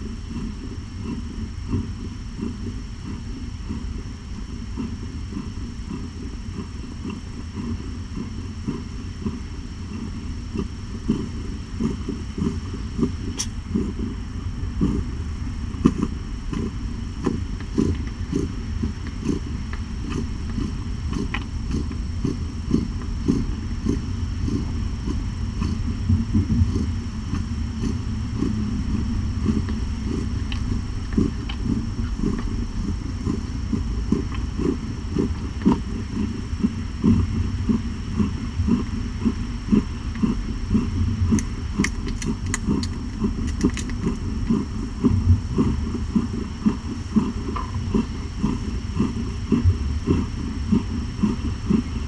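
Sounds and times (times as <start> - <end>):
cat purring loudly: 0.0 - 52.0.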